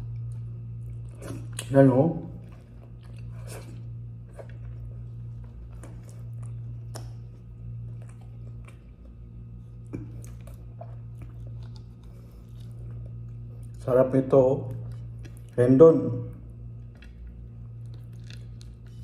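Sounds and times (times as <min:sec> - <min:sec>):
person chewing crunchy food: 0:00.0 - 0:15.8, 0:16.4 - 0:19.0
low hum: 0:00.0 - 0:19.0.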